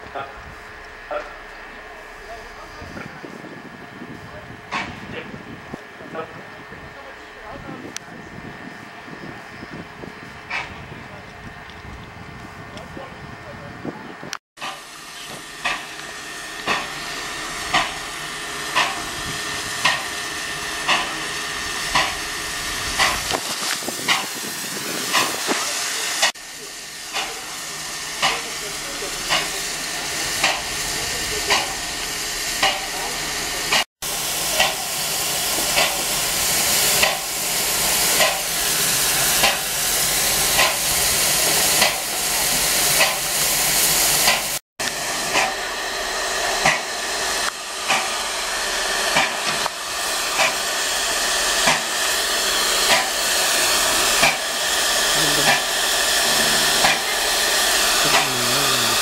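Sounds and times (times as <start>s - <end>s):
steam locomotive hissing: 0.0s - 11.6s, 12.5s - 59.0s.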